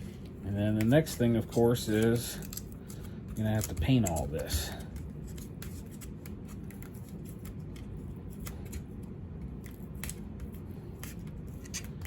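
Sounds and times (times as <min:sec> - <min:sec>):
steady low hum: 0:00.0 - 0:12.0
crafting materials clicking and crinkling: 0:00.7 - 0:12.0.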